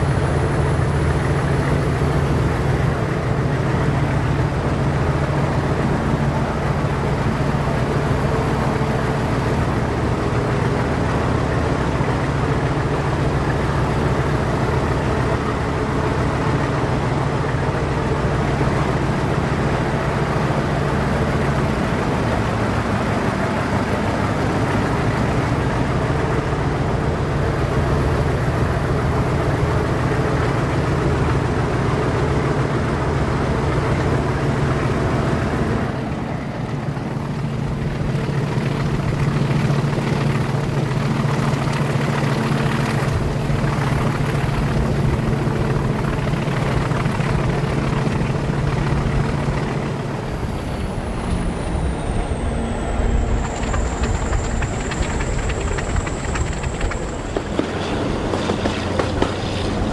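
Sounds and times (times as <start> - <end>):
coaches rumbling on rails: 0.0 - 59.9
diesel locomotive engine: 0.0 - 59.9.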